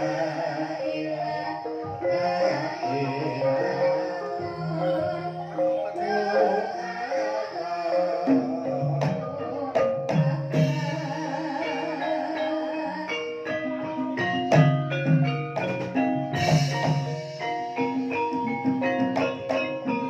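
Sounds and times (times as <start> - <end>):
gamelan keyed instruments melody: 0.0 - 20.0.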